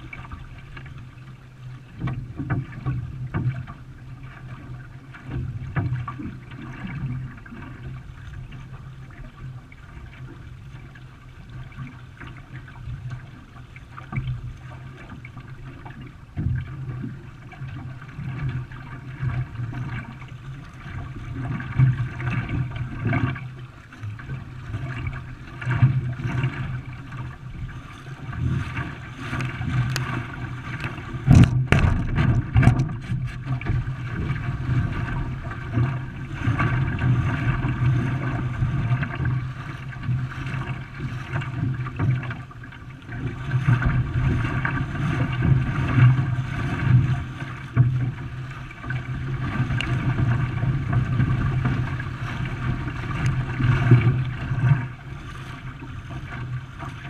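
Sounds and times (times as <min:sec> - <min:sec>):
paddle strokes: 0:00.0 - 0:57.0
rush of water: 0:00.0 - 0:57.0.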